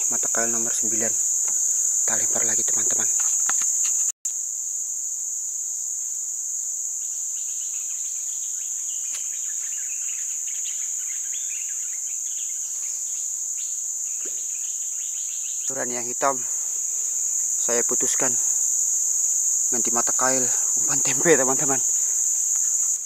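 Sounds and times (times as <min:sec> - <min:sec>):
insects chorus drone: 0:00.0 - 0:23.0.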